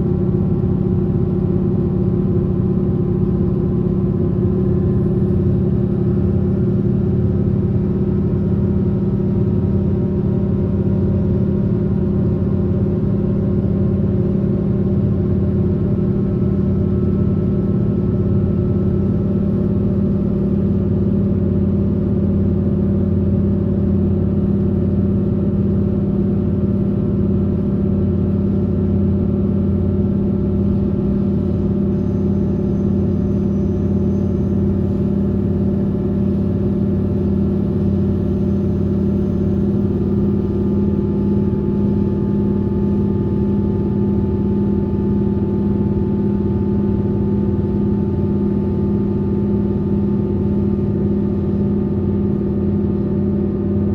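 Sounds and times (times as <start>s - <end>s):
steady drive hum: 0.0s - 22.6s, 24.4s - 53.9s.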